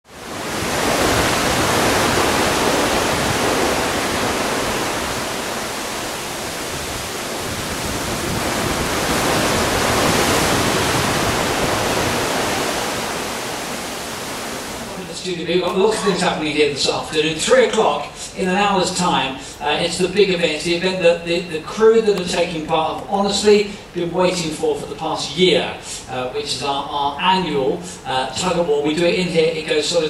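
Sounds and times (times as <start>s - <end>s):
sea water rushing along ship hull: 0.1s - 30.0s.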